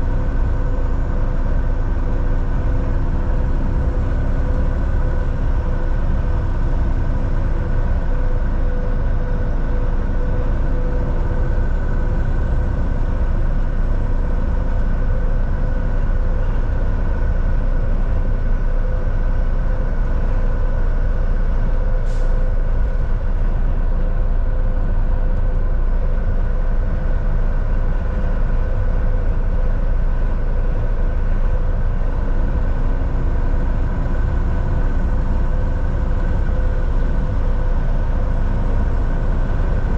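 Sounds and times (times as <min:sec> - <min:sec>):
diesel truck engine drone: 0:00.0 - 0:39.9.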